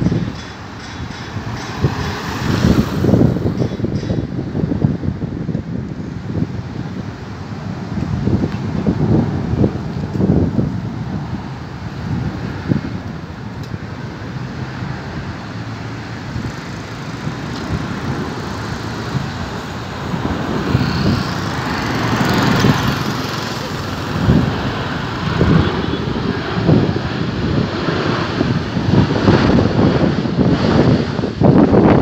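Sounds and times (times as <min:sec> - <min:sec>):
jet engines on approach: 0:00.0 - 0:32.0
wind buffeting microphone: 0:00.0 - 0:32.0.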